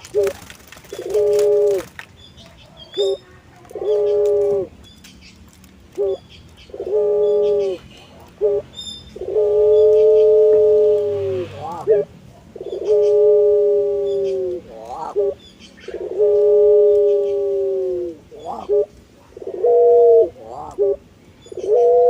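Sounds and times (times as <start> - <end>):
dove cooing: 0.0 - 1.9, 2.5 - 4.8, 6.0 - 22.0.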